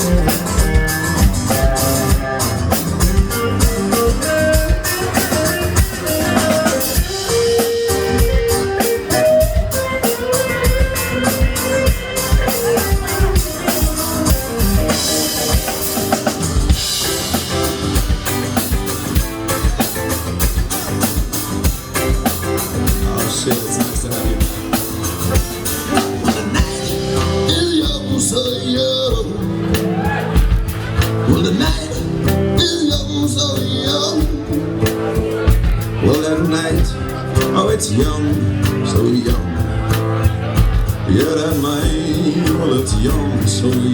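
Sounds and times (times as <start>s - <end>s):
bass guitar: 0.0s - 43.9s
drum kit beat: 0.0s - 43.9s
guitar: 0.0s - 43.9s.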